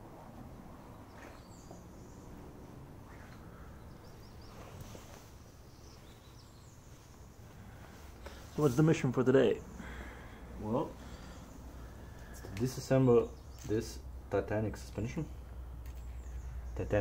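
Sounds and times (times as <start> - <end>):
low steady hum: 0.0 - 17.0
faint bird chirps: 0.8 - 8.8, 9.4 - 14.2, 15.0 - 17.0.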